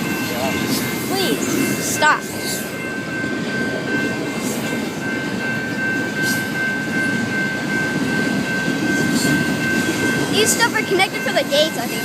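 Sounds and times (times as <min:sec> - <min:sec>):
train rumbling on tracks: 0:00.0 - 0:12.0.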